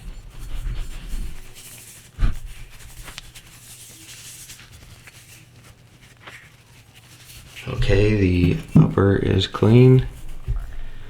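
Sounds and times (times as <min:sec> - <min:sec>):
cloth rubbing on metal: 0:00.0 - 0:11.0.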